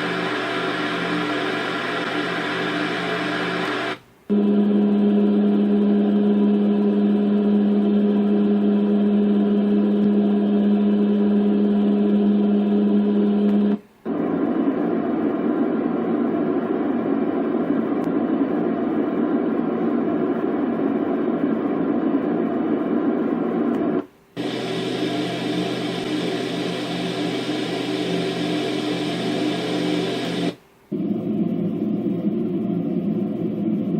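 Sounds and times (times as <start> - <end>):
white noise machine with hum: 0.0 - 33.9.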